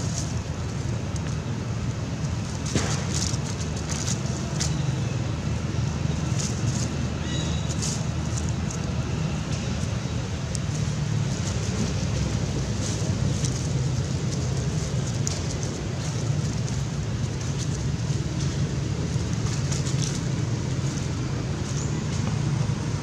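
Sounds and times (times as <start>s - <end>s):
dry leaves crackling and rustling: 0.0s - 23.0s
low rumble and hiss: 0.0s - 23.0s.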